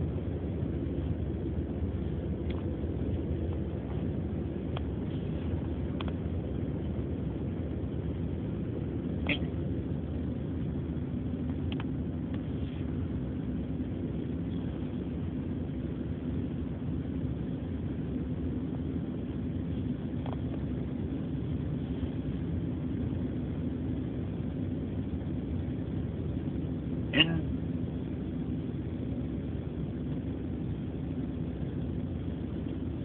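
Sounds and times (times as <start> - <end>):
car interior engine rumble: 0.0 - 33.0.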